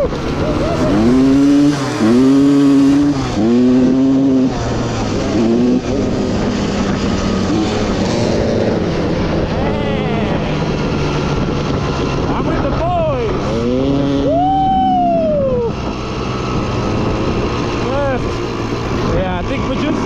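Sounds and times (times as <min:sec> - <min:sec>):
dirt bike engine accelerating: 0:00.0 - 0:20.0.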